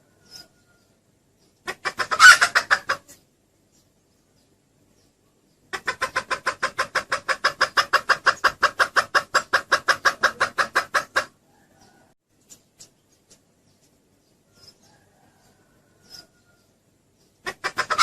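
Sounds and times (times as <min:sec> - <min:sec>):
hen clucking: 0:00.0 - 0:03.9, 0:05.5 - 0:18.0.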